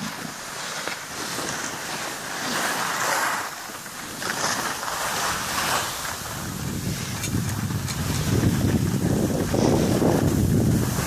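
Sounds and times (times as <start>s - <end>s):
skis scraping over snow: 0.0s - 11.0s.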